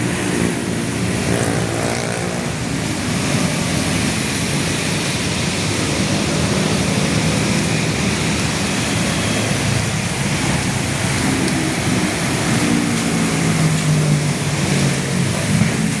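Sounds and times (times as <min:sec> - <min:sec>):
rain: 0:00.0 - 0:16.0
storm wind: 0:00.0 - 0:16.0.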